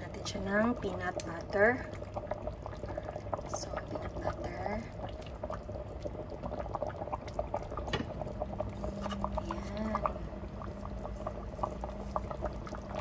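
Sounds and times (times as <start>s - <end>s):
stew bubbling: 0.0s - 13.0s.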